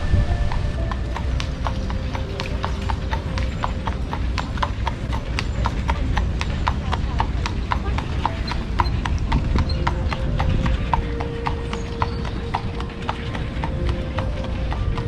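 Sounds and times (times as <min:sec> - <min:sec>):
horse hooves clip-clopping: 0:00.5 - 0:15.0.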